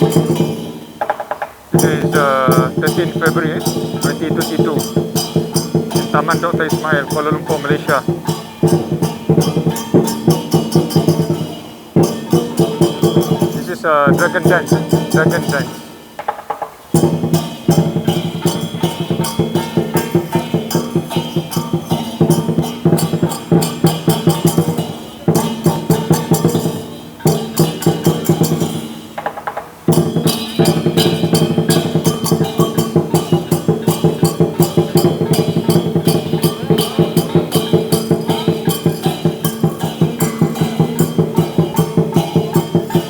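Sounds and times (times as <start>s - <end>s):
crashing cymbals: 0.0s - 43.0s
large drum beating: 0.0s - 43.0s.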